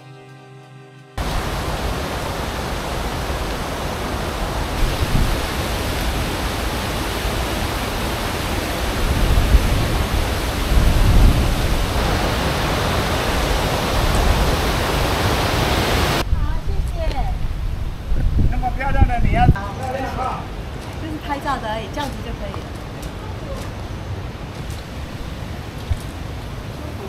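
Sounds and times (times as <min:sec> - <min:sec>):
creek rushing over cascades: 0:01.2 - 0:27.0.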